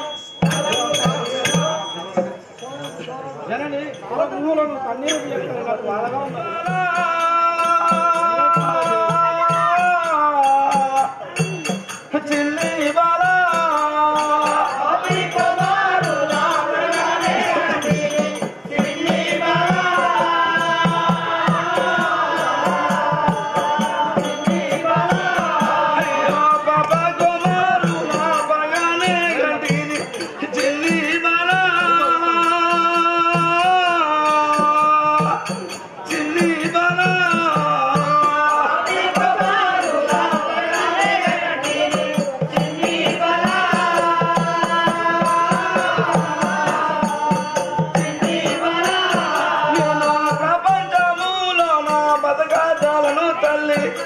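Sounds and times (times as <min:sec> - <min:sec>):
steady percussion beat with jingling: 0:00.0 - 0:54.0.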